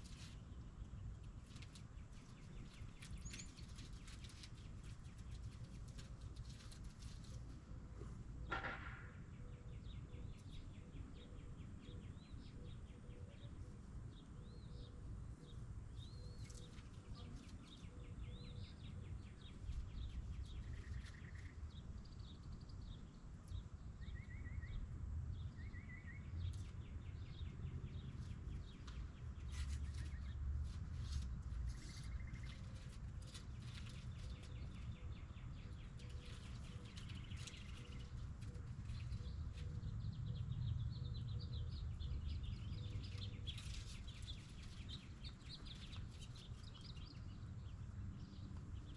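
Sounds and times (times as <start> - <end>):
birds chirping: 0.0 - 7.4, 9.3 - 48.9.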